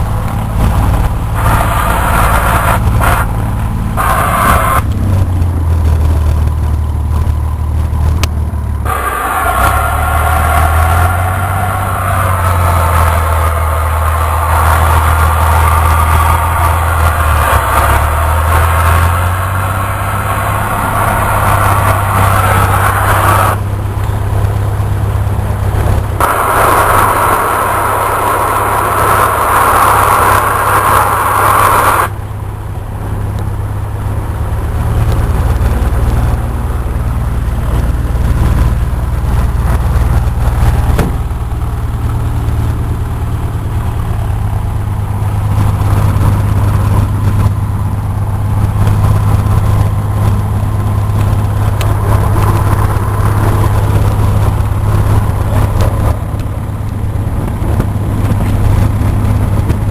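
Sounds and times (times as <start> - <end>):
hissing noise: 0.0 - 8.1, 8.8 - 32.6, 34.8 - 59.9
propeller plane engine droning: 0.0 - 59.9.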